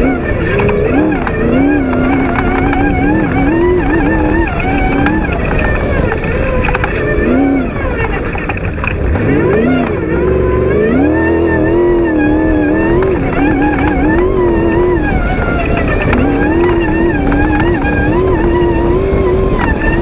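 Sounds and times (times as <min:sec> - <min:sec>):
race buggy engine revving: 0:00.0 - 0:20.0.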